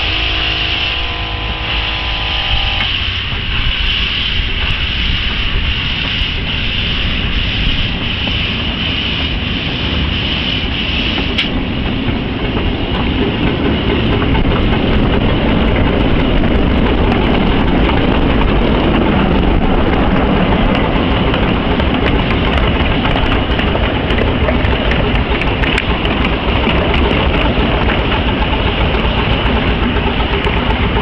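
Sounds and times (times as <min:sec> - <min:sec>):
high steam hiss: 0:00.0 - 0:31.0
miniature steam locomotive labouring: 0:00.0 - 0:31.0
wheels clicking on track: 0:02.4 - 0:31.0.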